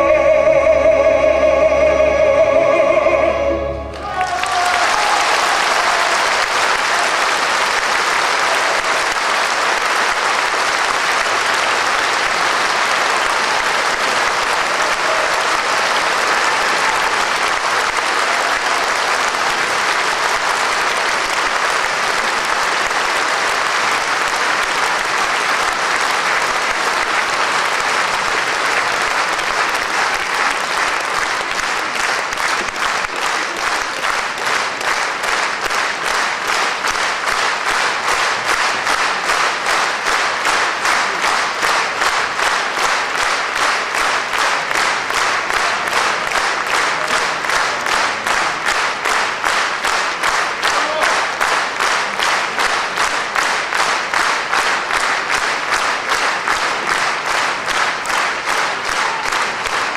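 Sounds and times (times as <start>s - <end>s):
audience applauding: 3.6s - 59.9s.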